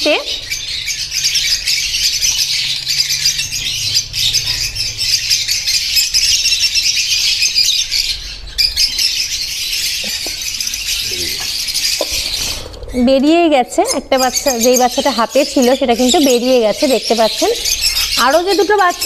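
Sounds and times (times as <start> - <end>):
lovebirds chattering and calling: 0.0 - 19.0.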